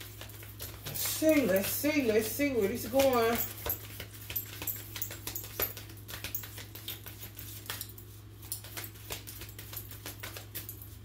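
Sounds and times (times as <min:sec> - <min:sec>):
cards being shuffled: 0:00.0 - 0:11.0
low electrical hum: 0:00.0 - 0:11.0.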